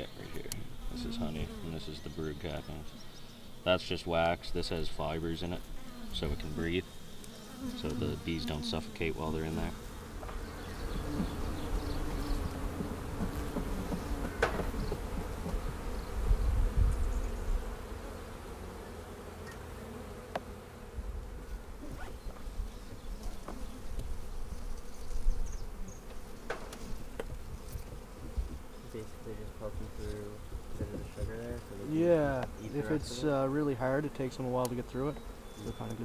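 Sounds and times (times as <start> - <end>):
bees buzzing: 0.0 - 36.0.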